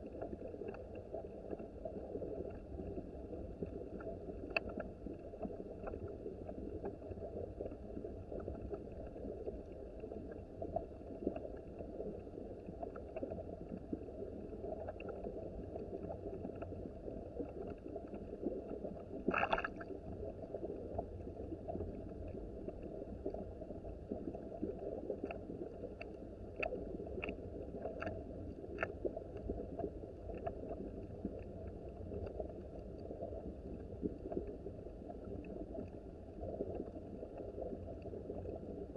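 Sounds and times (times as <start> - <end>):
creek flowing and burbling: 0.0 - 38.9
faint clicks: 0.0 - 38.9.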